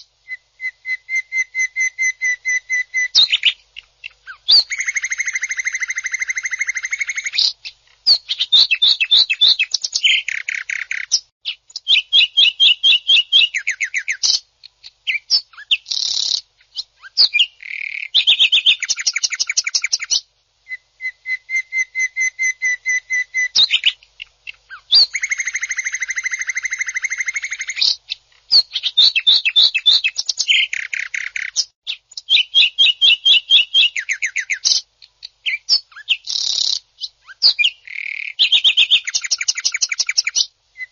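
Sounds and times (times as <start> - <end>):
bird singing rapid harsh trills: 0.0 - 40.9.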